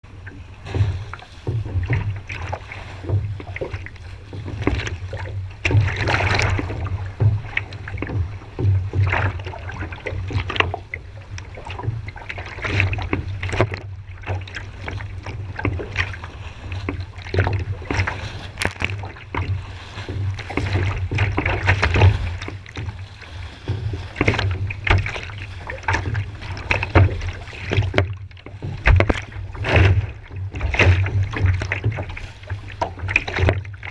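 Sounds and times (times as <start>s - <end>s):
water splashing against kayak: 0.0s - 33.9s.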